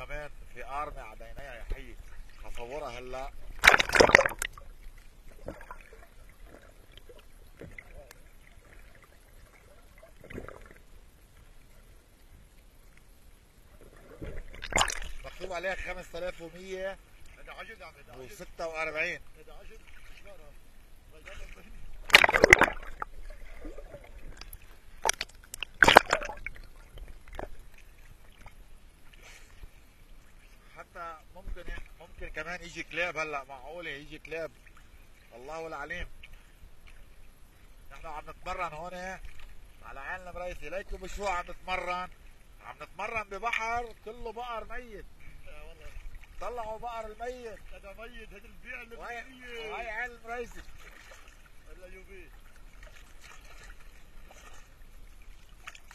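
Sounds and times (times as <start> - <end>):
muffled underwater sea wash: 0.0 - 55.9.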